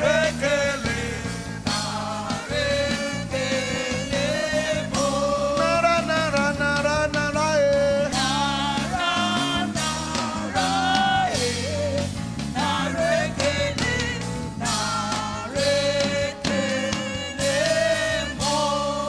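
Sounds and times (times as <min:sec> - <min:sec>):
band with keyboard bass and drums: 0:00.0 - 0:19.0
gospel singing: 0:00.0 - 0:19.0.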